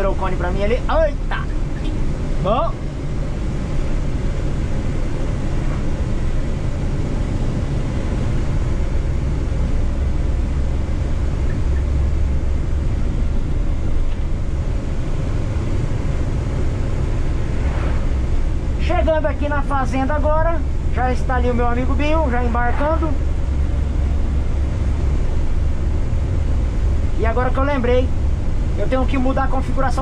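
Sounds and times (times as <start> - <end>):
coach engine and tyre drone: 0.0 - 30.0.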